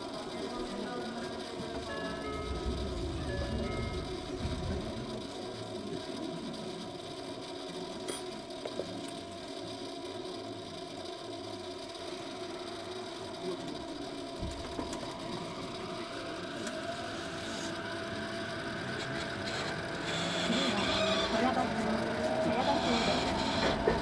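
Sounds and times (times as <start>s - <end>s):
subway train rumble: 0.0s - 8.6s, 10.7s - 24.0s.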